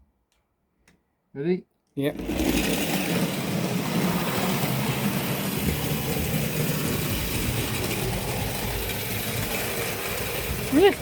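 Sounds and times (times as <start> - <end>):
clockwork toy train whirring: 2.1 - 11.0.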